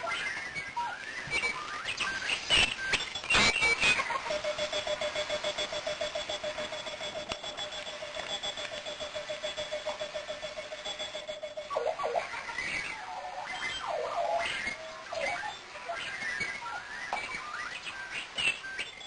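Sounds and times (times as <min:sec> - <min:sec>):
alarm clock beeping: 0:00.0 - 0:19.0.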